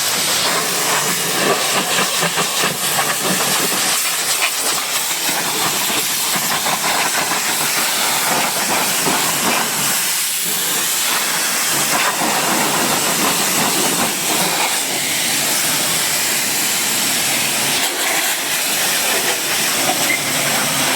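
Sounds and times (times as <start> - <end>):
pressure washer spraying: 0.0 - 20.9.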